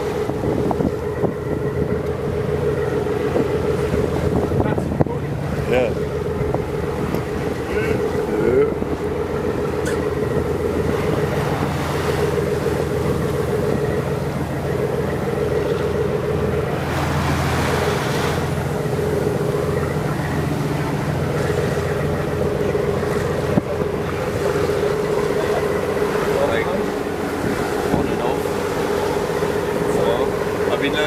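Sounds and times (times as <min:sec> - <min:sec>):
boat engine droning: 0:00.0 - 0:31.0
water rushing past hull: 0:00.0 - 0:31.0.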